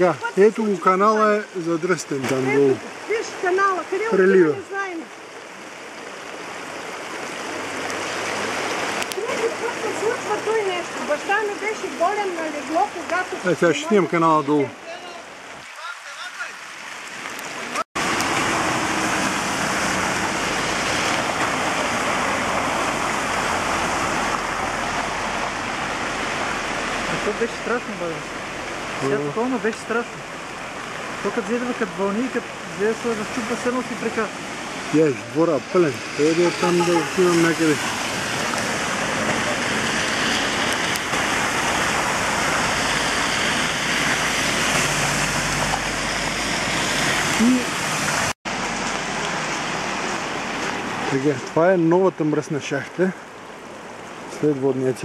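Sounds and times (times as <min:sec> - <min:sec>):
floodwater rushing: 0:00.0 - 0:55.0
heavy rain: 0:00.0 - 0:55.0.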